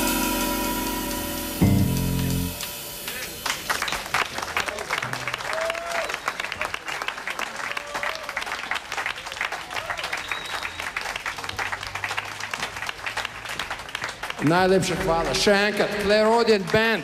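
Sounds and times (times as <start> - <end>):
audience applauding: 2.6 - 17.0.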